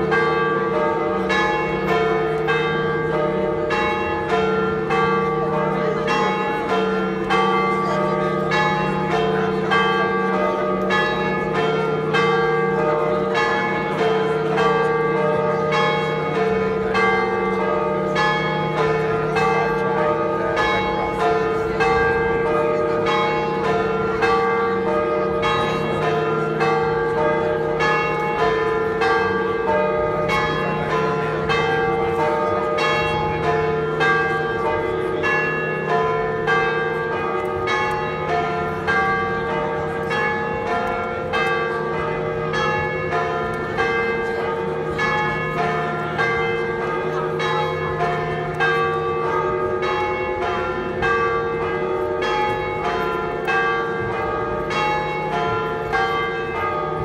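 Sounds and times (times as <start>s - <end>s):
church bells pealing: 0.0s - 57.0s.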